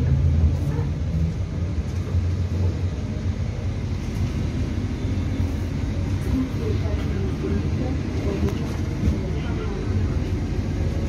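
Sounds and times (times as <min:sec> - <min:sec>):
train car low rumble: 0:00.0 - 0:11.0.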